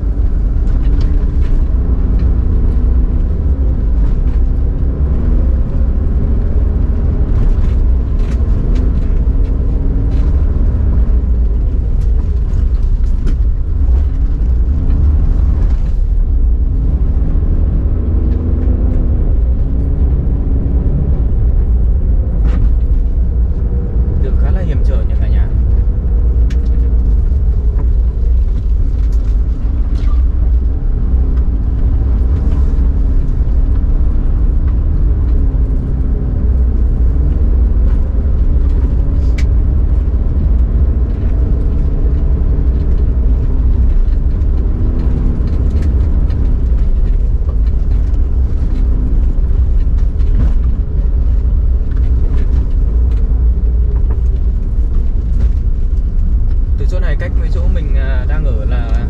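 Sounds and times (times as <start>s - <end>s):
car engine from inside: 0.0s - 59.0s
road rumble: 0.0s - 59.0s.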